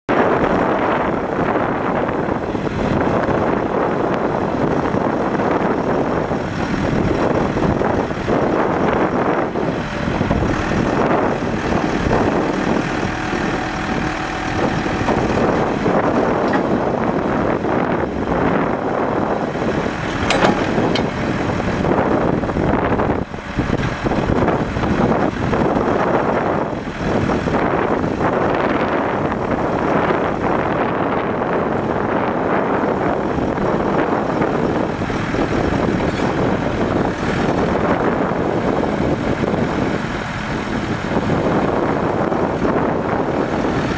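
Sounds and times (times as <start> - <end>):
diesel engine running: 0.1 - 43.9
hydraulics working: 0.3 - 43.9.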